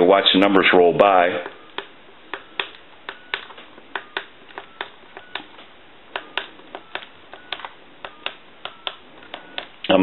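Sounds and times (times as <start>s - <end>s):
telephone keypad button clicks: 1.4s - 9.9s.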